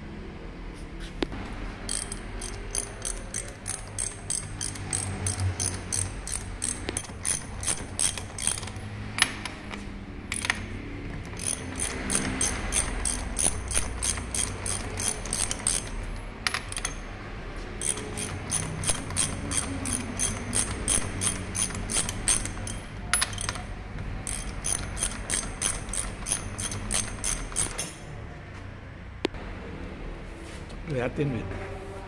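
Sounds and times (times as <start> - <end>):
ratchet wrench clicking: 1.8 - 17.1, 17.8 - 28.1.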